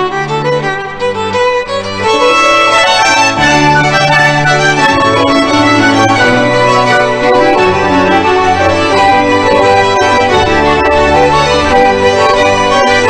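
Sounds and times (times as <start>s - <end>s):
instrumental music with held chords: 0.0s - 13.0s.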